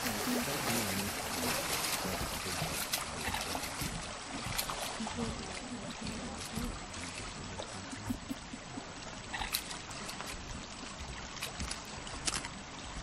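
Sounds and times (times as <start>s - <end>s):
creek running over gravel: 0.0s - 13.0s.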